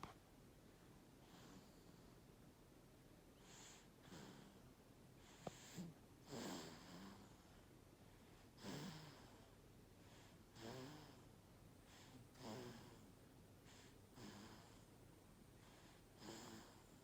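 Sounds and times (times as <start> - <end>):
baby snoring softly: 1.2 - 2.1, 3.4 - 14.9, 15.6 - 17.0.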